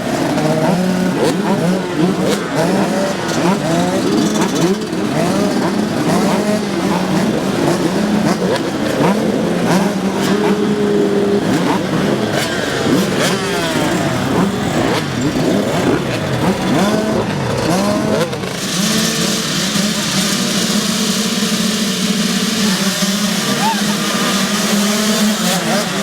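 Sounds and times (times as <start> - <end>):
dirt bikes revving: 0.0 - 26.0.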